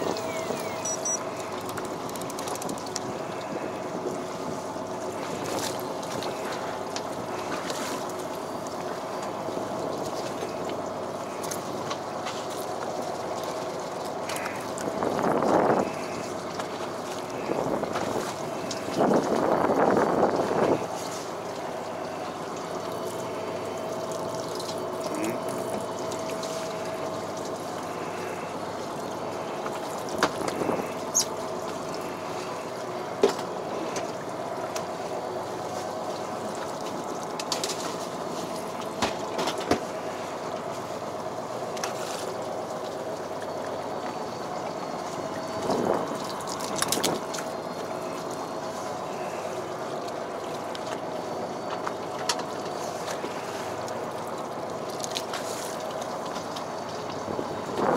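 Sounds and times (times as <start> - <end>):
boat engine drone: 0.0 - 57.9.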